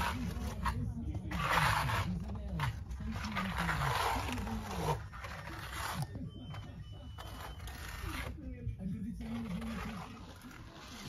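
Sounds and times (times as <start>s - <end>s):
float scraping over render: 0.0s - 11.0s.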